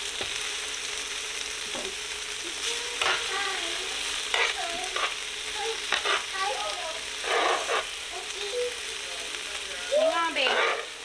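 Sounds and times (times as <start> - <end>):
food sizzling in hot fat: 0.0 - 11.0.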